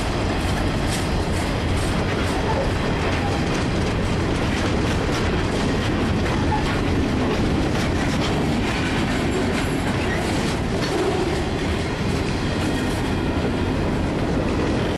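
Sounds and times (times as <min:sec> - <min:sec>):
freight train rolling past: 0:00.0 - 0:14.9.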